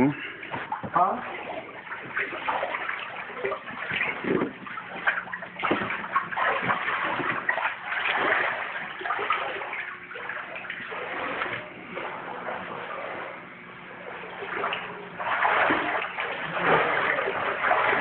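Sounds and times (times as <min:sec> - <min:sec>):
water splashing while wading: 0:00.3 - 0:18.0.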